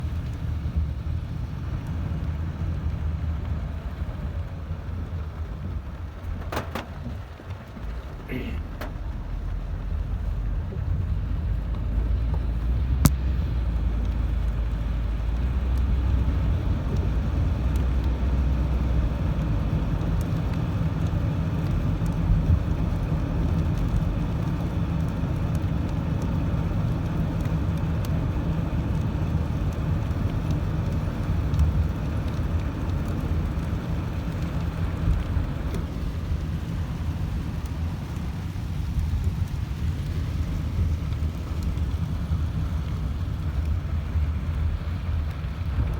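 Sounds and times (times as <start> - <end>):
car interior rumble: 0.0 - 45.9
rain hissing: 0.0 - 45.9
raindrops ticking: 0.0 - 45.9.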